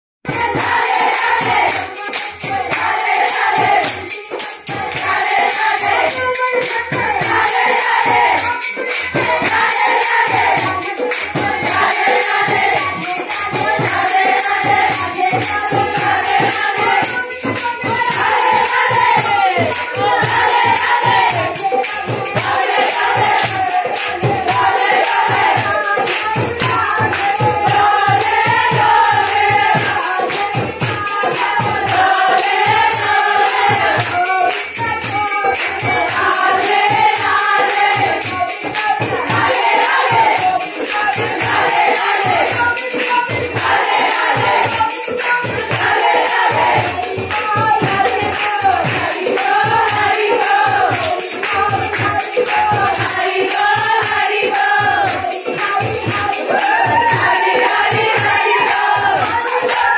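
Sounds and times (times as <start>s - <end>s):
jingling hand percussion: 0.2s - 59.9s
group singing devotional chant: 0.3s - 59.9s.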